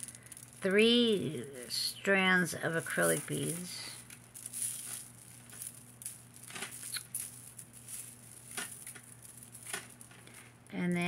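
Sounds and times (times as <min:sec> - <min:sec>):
beads and chains clicking: 0:00.0 - 0:11.0.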